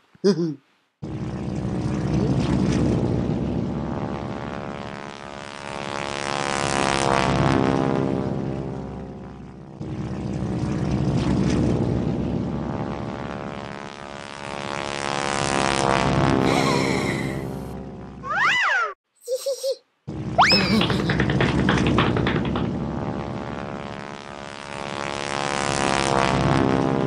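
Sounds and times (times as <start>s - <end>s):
propeller airplane flying past: 1.0s - 18.2s, 20.1s - 27.0s.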